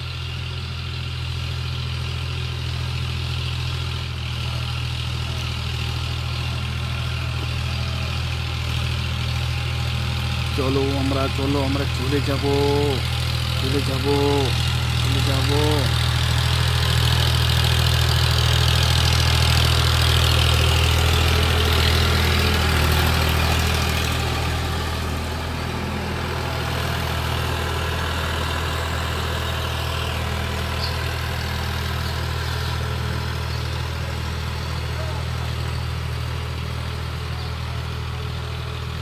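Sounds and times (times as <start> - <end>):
diesel tractor engine running: 0.0 - 39.0.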